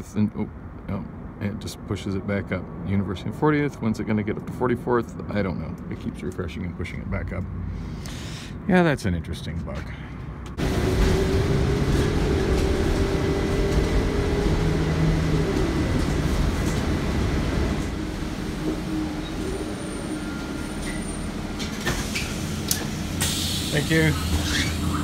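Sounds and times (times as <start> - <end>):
bus engine and ride noise: 0.0 - 25.0.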